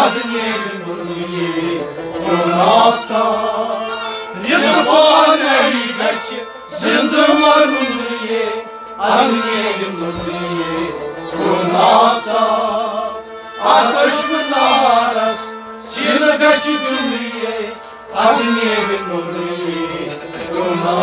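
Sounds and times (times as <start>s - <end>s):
man singing: 0.0s - 21.0s
stringed instrument: 0.0s - 21.0s.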